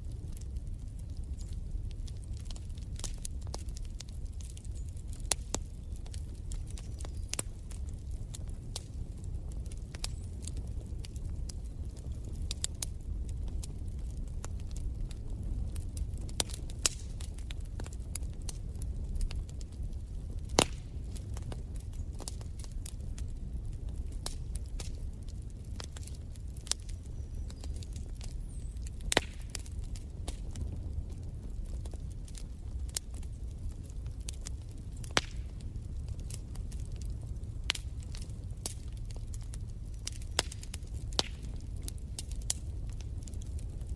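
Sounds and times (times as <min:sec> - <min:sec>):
low rumble of flames: 0:00.0 - 0:43.9
sharp pops from fire: 0:00.0 - 0:43.9
wood fire crackling: 0:00.0 - 0:43.9.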